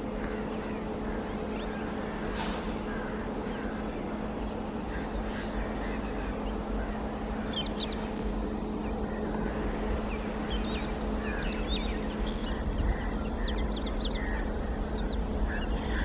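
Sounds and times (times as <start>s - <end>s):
locomotive electrical hum: 0.0s - 16.0s
small birds chirping: 0.0s - 16.0s.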